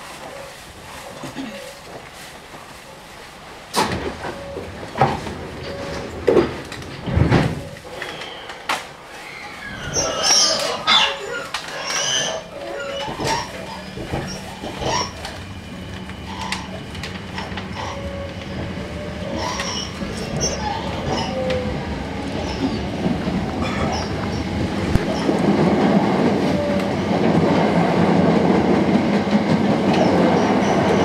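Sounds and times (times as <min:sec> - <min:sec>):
train rumble and wheel noise: 0:00.0 - 0:31.0.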